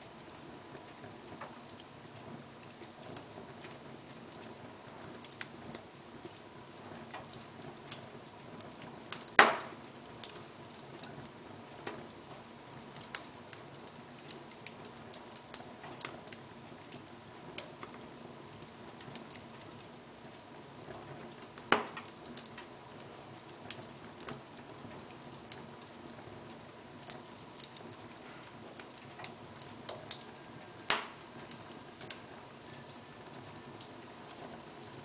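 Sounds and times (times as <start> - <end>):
flame hissing: 0.0 - 35.0
wood fire crackling and popping: 0.0 - 35.0.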